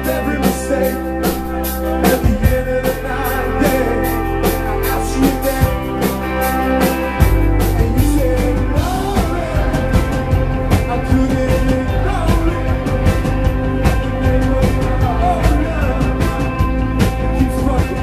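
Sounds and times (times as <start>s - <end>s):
man singing: 0.0s - 6.3s, 7.6s - 18.0s
live rock band playing: 0.0s - 18.0s
steady drum beat: 0.0s - 18.0s.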